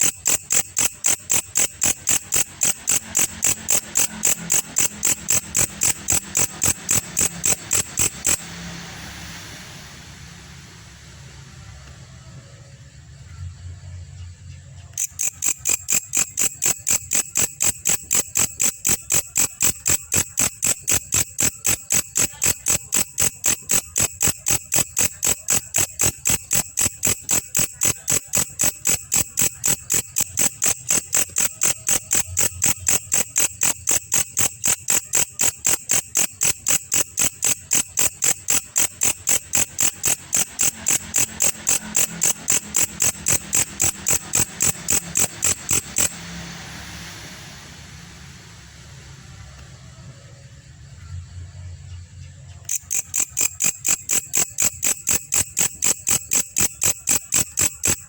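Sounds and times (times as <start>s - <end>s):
katydid chirping: 0.0s - 9.4s, 14.8s - 47.3s, 52.5s - 58.0s.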